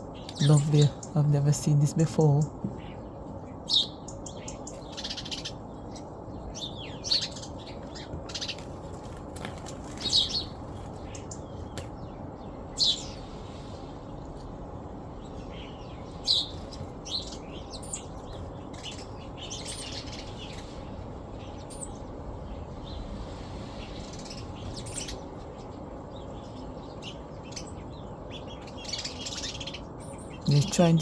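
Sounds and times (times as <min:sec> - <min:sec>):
birds chirping: 0:00.0 - 0:31.0
low background rumble: 0:00.0 - 0:31.0.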